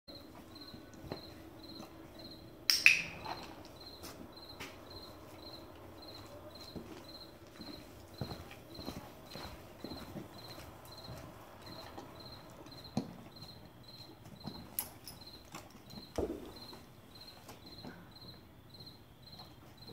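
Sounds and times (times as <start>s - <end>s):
cricket chirping: 0.1s - 19.9s
soft footsteps on concrete: 0.2s - 2.5s, 3.2s - 19.9s.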